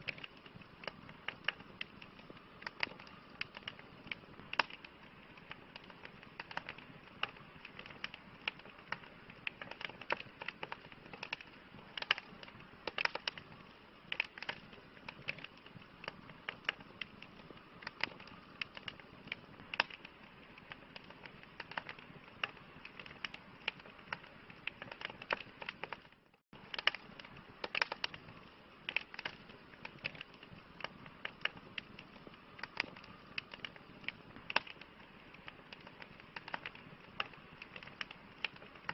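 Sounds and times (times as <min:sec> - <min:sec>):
campfire crackling and popping: 0:00.0 - 0:38.9
low hiss of burning: 0:00.0 - 0:38.9.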